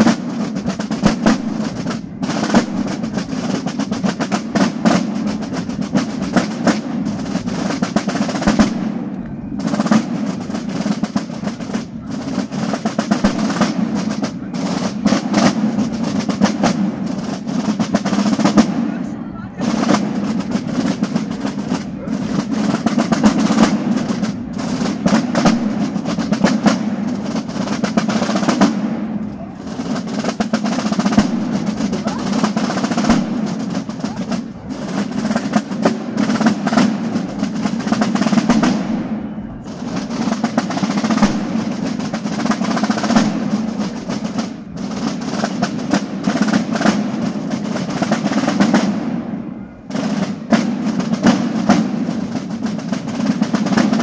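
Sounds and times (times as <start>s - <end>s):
side drums playing a march: 0.0s - 54.0s.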